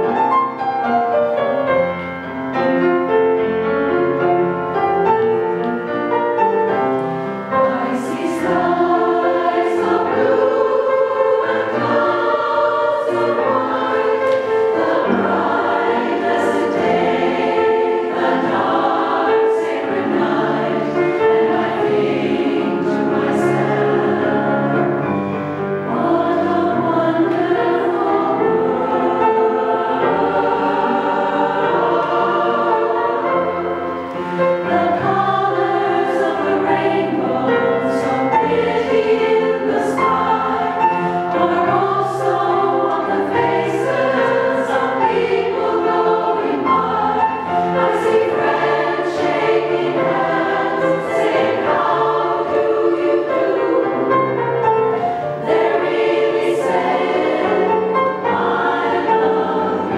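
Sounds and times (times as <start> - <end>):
piano accompaniment: 0.0 - 59.9
women's chorus singing: 6.8 - 59.9.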